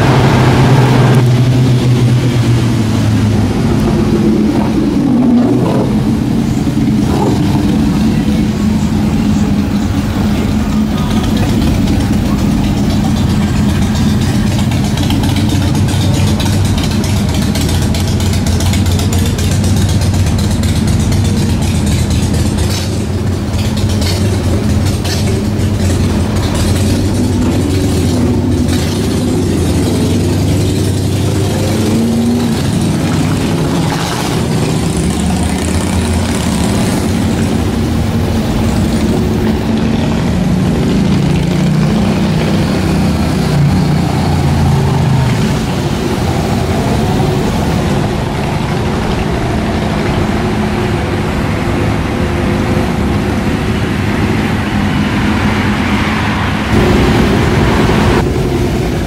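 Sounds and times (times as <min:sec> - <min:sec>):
motorcycle engines passing: 0:00.0 - 0:59.0.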